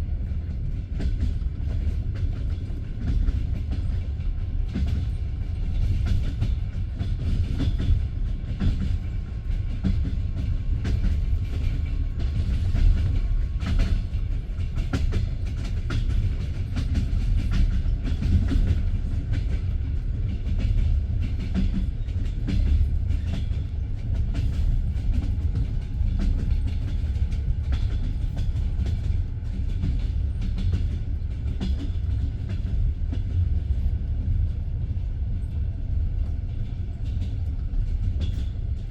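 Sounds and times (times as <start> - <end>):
train carriage rumble: 0.0 - 38.9.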